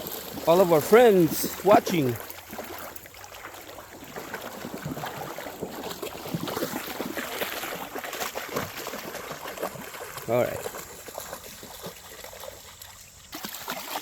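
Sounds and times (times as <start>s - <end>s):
footsteps splashing in gravelly creek: 0.0s - 14.0s
trickle of flowing water: 0.0s - 14.0s.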